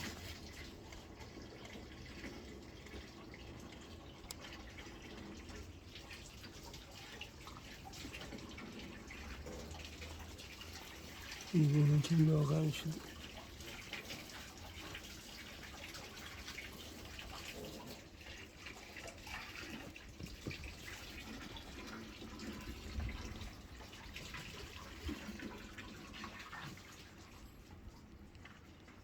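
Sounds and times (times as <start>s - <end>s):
water trickling and splashing: 0.0s - 29.0s.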